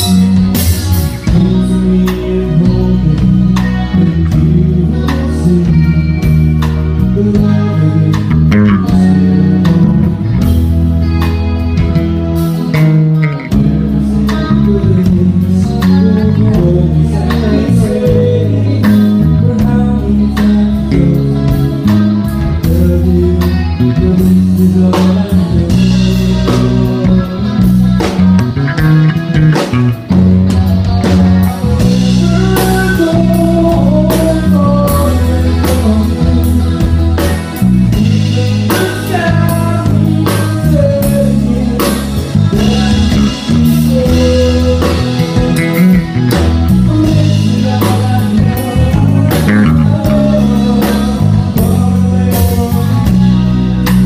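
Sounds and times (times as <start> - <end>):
drum kit beat: 0.0 - 54.0
live band playing: 0.0 - 54.0
person singing: 0.0 - 54.0.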